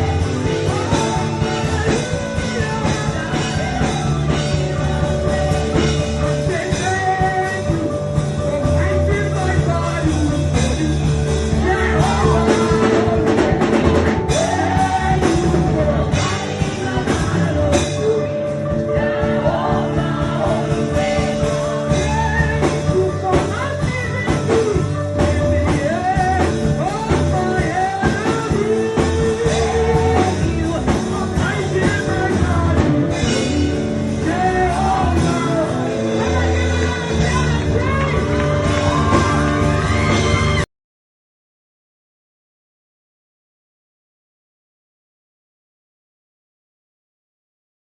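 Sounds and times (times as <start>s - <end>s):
band with bass and drums: 0.0s - 40.7s
gospel singing: 0.0s - 40.7s.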